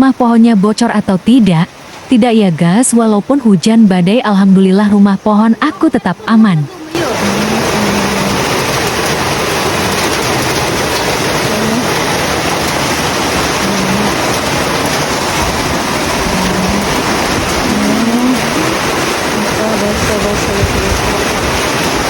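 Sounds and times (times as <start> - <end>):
heavy rain: 0.0 - 22.0
gusting wind: 2.8 - 22.0.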